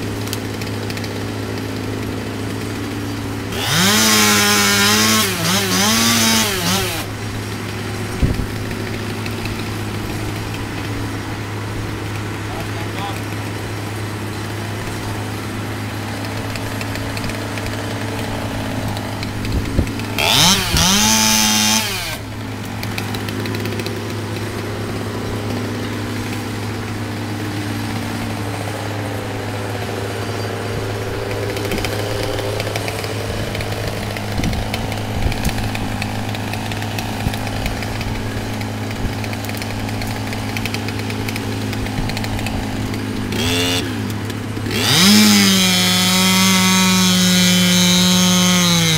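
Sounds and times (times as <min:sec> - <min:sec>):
chainsaw revving and cutting: 0:00.0 - 0:48.9
low engine hum: 0:00.0 - 0:48.9.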